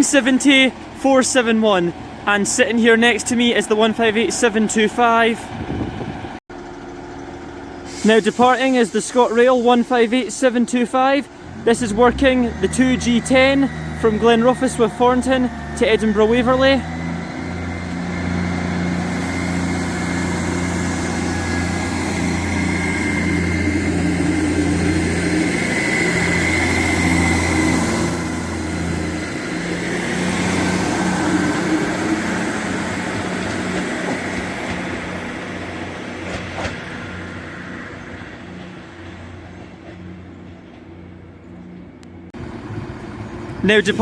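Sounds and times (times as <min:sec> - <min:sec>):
diesel train engines droning: 0:00.0 - 0:44.0.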